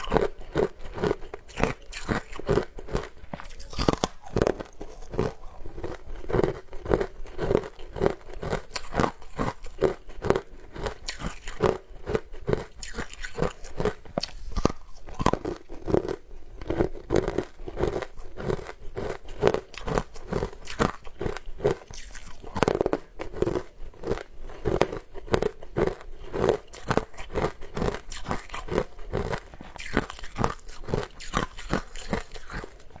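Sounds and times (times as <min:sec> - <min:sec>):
crunching ice: 0:00.0 - 0:33.0.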